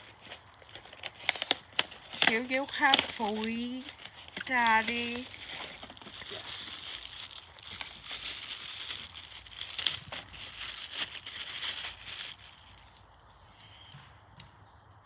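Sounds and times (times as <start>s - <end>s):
firecrackers crinkling: 0.0s - 13.4s.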